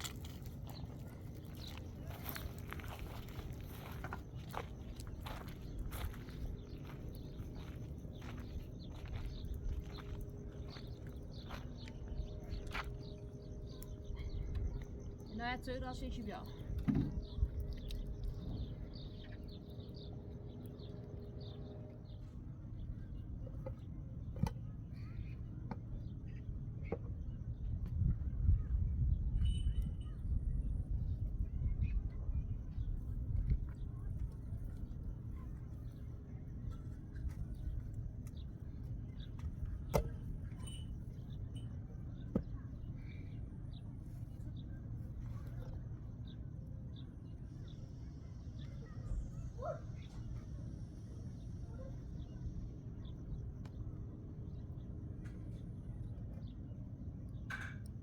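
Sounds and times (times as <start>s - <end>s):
small birds chirping: 0.0s - 27.7s, 29.4s - 57.7s
steady low rumble: 0.0s - 58.0s.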